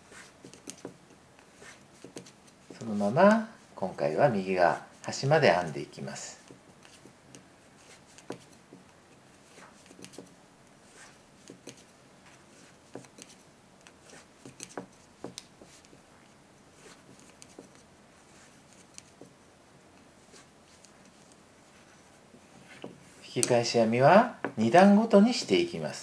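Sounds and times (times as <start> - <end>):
yarn rubbing: 0.0 - 26.0.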